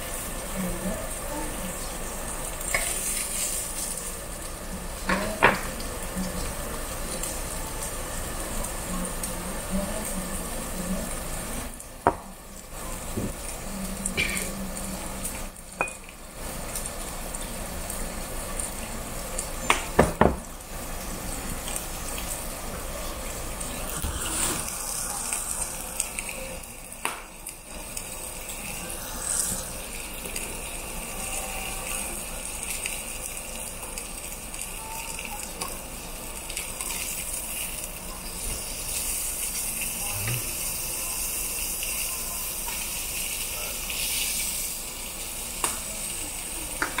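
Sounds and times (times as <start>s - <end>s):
pork sizzling on a grill plate: 0.0s - 47.0s.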